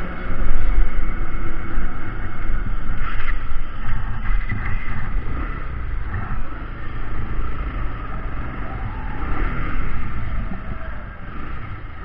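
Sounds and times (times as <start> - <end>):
vehicle and road noise: 0.0 - 12.0
wind rumbling on microphone: 0.0 - 12.0.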